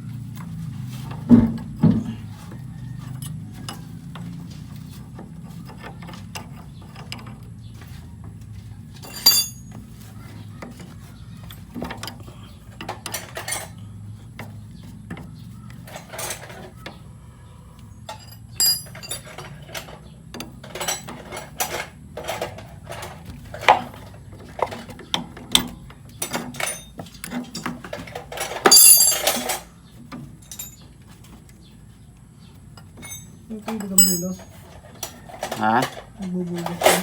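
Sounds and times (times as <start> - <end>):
metal tools clinking and knocking: 0.4 - 17.0, 17.9 - 31.4, 32.7 - 37.0.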